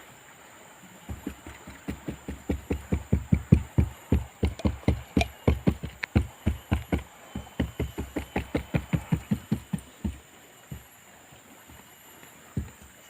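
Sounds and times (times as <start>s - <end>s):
rhythmic hand strokes on boat hull: 1.0s - 13.0s.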